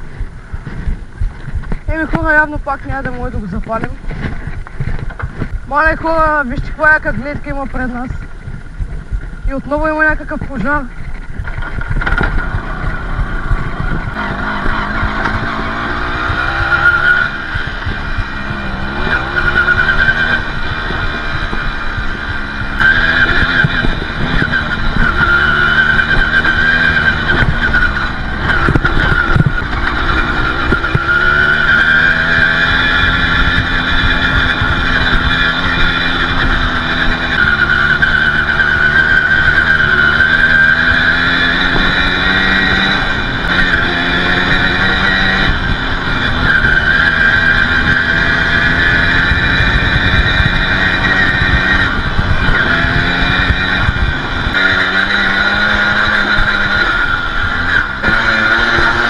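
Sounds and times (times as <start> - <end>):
two-stroke motorbike engine: 0.0 - 59.0.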